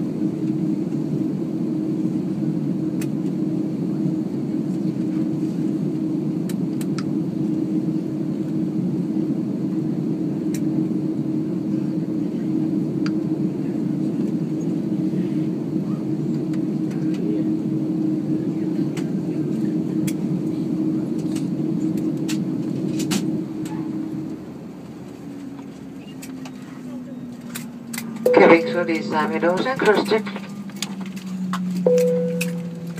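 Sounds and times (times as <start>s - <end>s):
airplane cabin hum: 0.0s - 32.9s.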